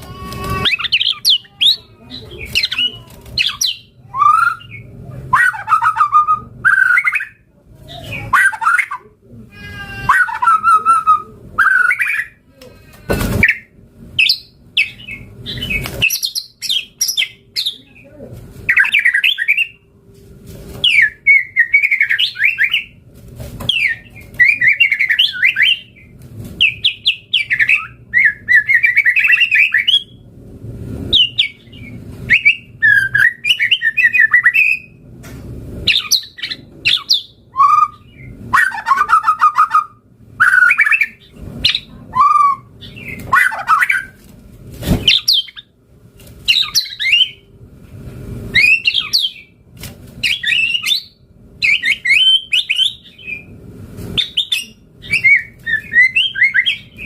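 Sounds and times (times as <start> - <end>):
bird singing varied phrases: 0.2 - 9.1, 9.7 - 12.4, 13.4 - 18.1, 18.7 - 19.9, 20.8 - 23.0, 23.7 - 30.2, 31.1 - 35.0, 35.8 - 44.2, 45.1 - 45.8, 46.5 - 47.4, 48.5 - 49.6, 50.2 - 53.6, 54.2 - 57.0.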